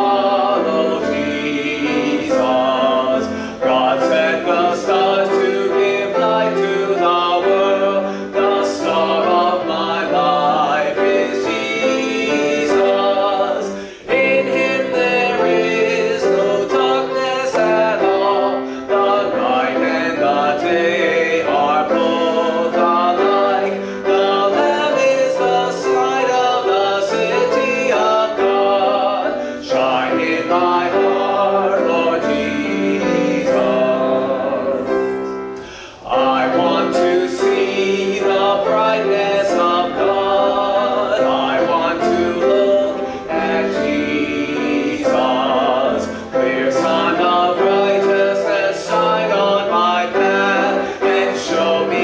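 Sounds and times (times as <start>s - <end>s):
grand piano accompaniment: 0.0s - 52.0s
voices singing a hymn: 0.0s - 52.0s.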